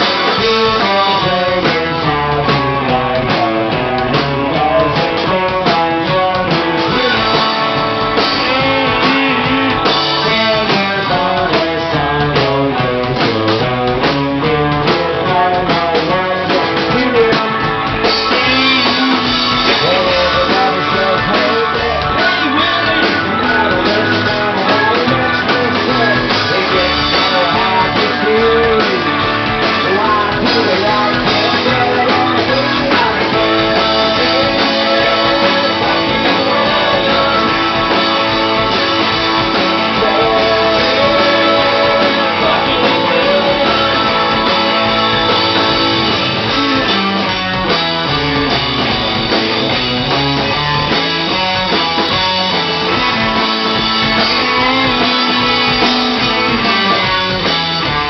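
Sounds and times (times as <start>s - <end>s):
man singing: 0.0s - 47.5s, 52.9s - 57.5s
drum kit: 0.0s - 58.0s
electric guitars riffing: 0.0s - 58.0s.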